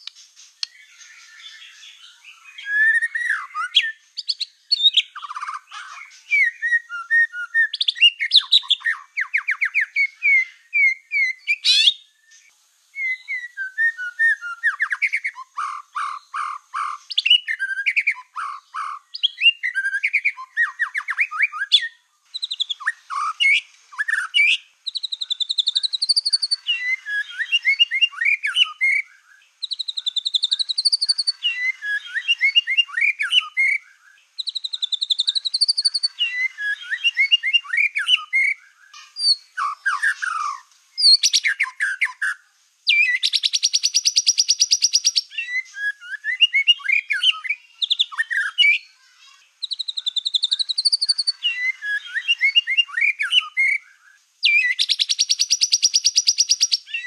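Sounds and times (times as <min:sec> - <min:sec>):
bird song with warbled trills: 0:00.0 - 0:57.0.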